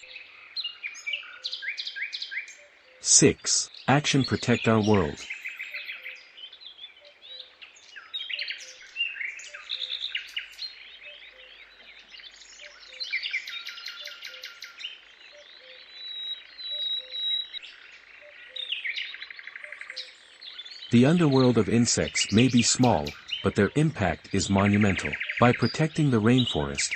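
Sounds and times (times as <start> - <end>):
birds chirping and trilling: 0.0 - 26.9.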